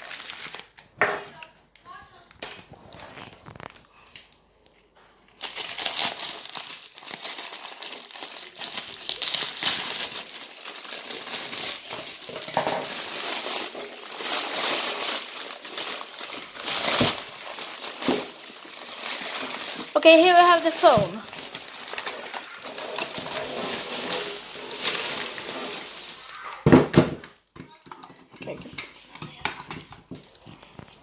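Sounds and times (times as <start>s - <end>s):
packaging crinkling: 0.0s - 1.0s, 2.2s - 4.4s, 5.3s - 27.4s.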